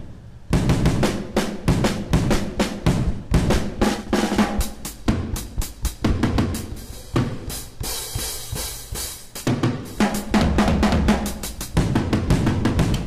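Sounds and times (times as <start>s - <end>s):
kick and snare drum hits: 0.5s - 13.0s.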